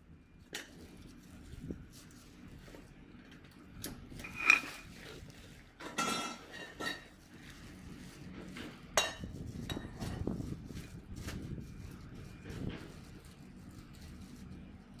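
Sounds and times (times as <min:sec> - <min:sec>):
plastic wrap rustling and tearing: 0:00.7 - 0:15.0.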